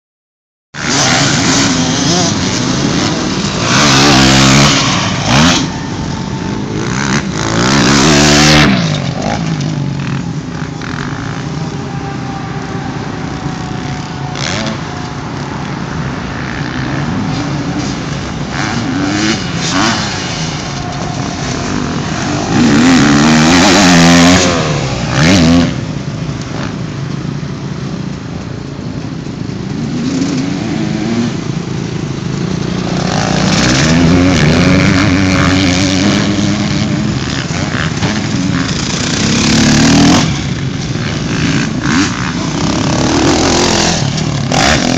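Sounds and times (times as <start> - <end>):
motocross bike engines revving: 0.8 - 44.9.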